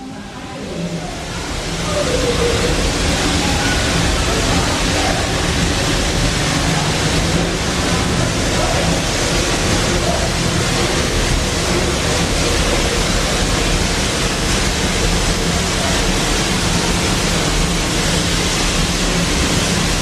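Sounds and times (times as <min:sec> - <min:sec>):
crowd murmuring: 0:00.0 - 0:20.0
steam locomotive venting steam: 0:00.0 - 0:20.0.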